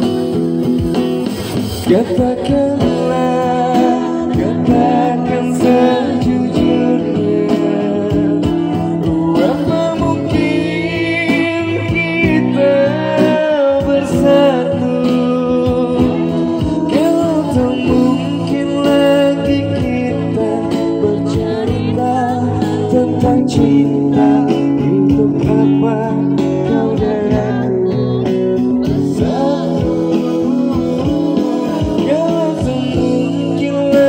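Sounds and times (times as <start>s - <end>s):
men singing into microphones: 0.0s - 34.0s
percussion keeping time: 0.0s - 34.0s
strummed acoustic guitar: 0.0s - 34.0s.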